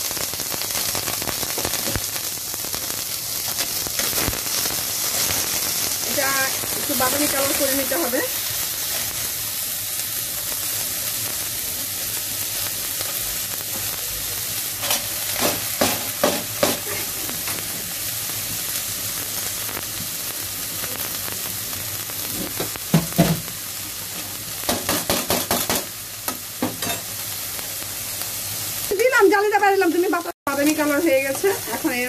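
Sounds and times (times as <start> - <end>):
onions sizzling in oil: 0.0 - 32.0.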